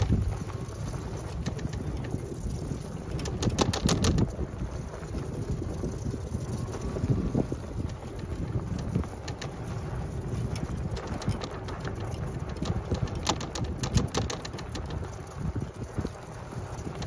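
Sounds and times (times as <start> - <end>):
sharp clicks and crackles: 0.0 - 17.0
vehicle rumbling on sandy track: 0.0 - 17.0
wind on microphone: 0.0 - 17.0.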